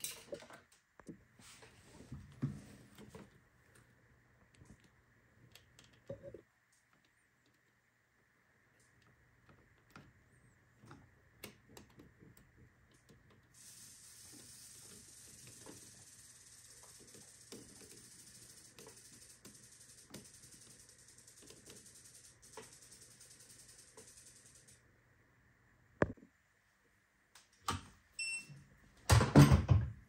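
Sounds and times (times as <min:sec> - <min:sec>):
faint steady hiss: 0:00.0 - 0:29.1.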